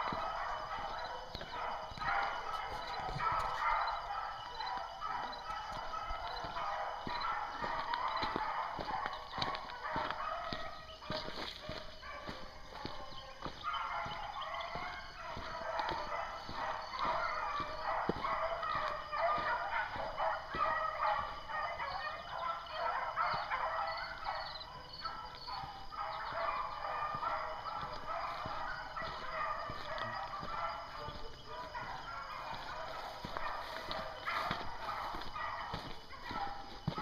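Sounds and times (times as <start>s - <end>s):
pack of dogs baying: 0.0s - 37.0s.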